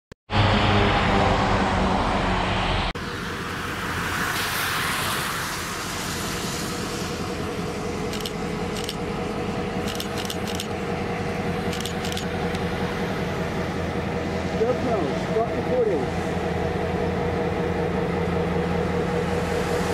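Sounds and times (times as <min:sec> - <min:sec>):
diesel locomotive engine humming: 0:00.3 - 0:19.9.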